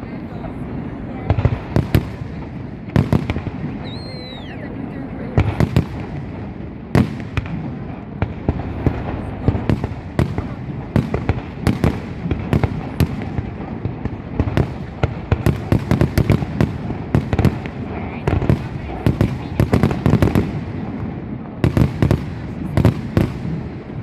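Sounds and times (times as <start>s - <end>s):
firework bangs: 0.0s - 24.0s
fireworks rumble: 0.0s - 24.0s.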